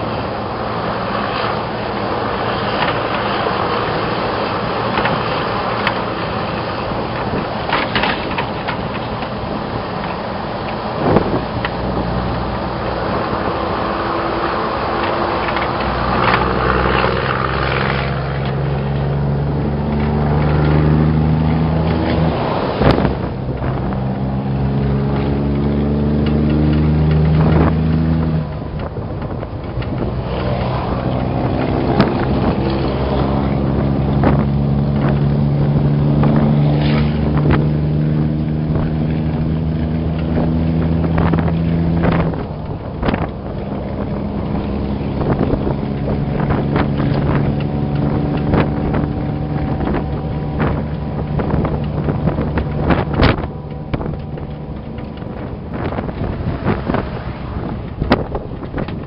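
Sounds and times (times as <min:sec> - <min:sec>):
road and wind noise: 0:00.0 - 0:59.0
truck engine accelerating: 0:00.0 - 0:59.0.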